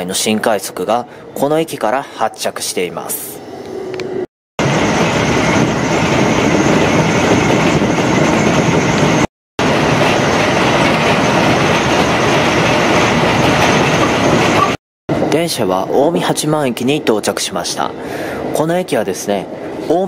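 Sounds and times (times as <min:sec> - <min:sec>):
electric train rumbling: 0:00.0 - 0:20.0.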